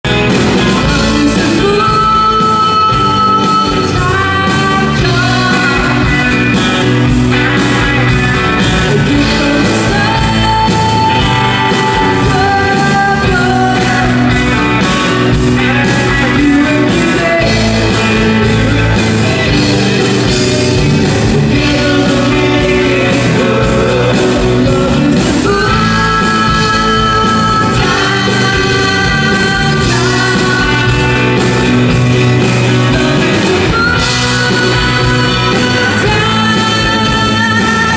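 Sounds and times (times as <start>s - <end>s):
drums keeping a steady beat: 0.0s - 37.9s
electric guitar: 0.0s - 37.9s
woman singing: 0.6s - 6.8s, 8.8s - 37.9s.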